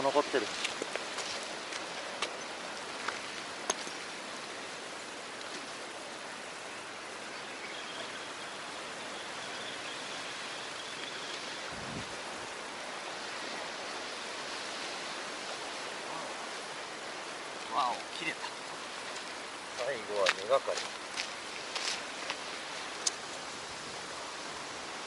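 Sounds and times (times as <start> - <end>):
sea water washing on shore: 0.0 - 25.0
wind: 0.0 - 25.0.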